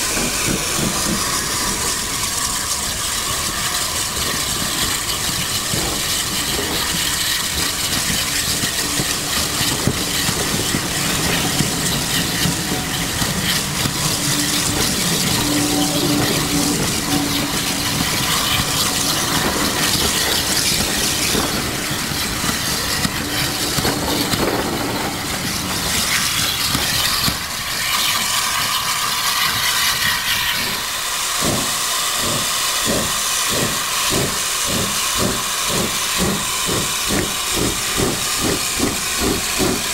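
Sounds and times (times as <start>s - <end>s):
locomotive exhaust chuffing: 0.0s - 39.9s
steam locomotive hissing: 0.0s - 39.9s.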